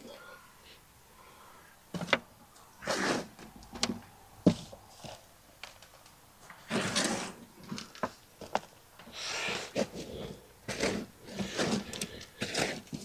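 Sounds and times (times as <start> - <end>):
compost rustling: 1.2 - 13.0.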